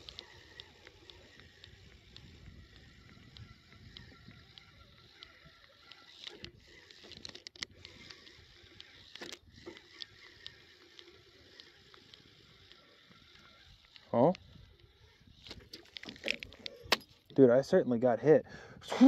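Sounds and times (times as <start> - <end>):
fishing reel ticking: 0.0 - 17.3.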